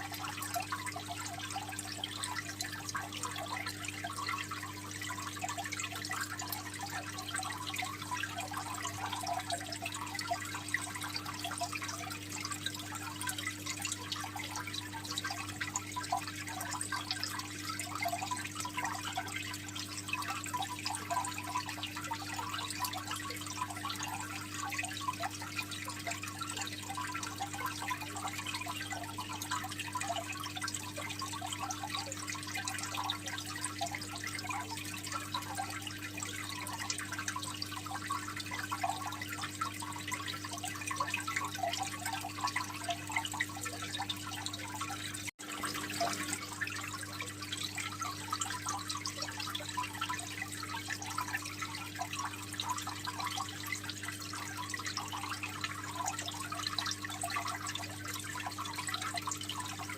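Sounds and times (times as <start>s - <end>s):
aquarium water trickling and bubbling: 0.0s - 59.9s.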